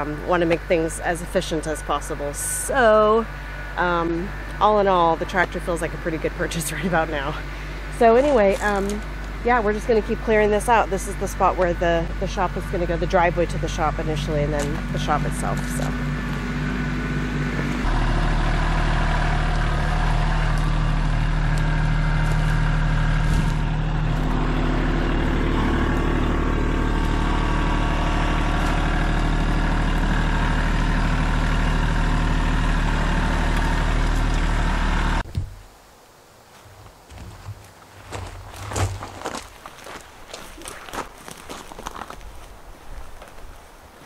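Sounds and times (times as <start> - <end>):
tractor engine running: 0.0 - 35.6.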